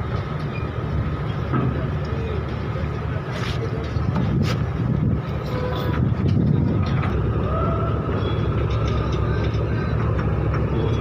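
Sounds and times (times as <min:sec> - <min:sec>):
heavy engine rumbling: 0:00.0 - 0:11.0.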